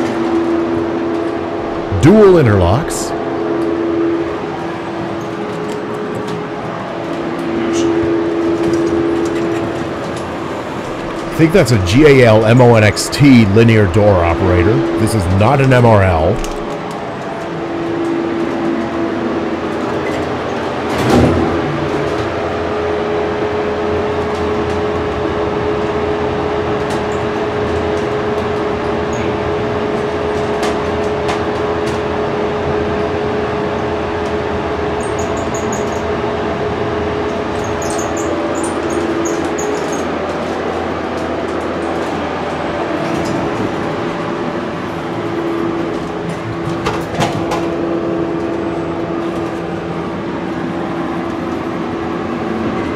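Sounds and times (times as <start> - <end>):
steady electrical hum: 0.0 - 52.9
ventilation fan running: 0.0 - 52.9.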